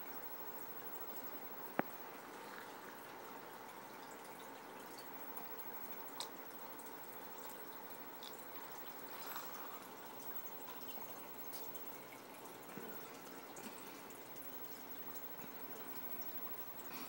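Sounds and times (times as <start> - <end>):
aquarium water trickling: 0.0 - 17.0.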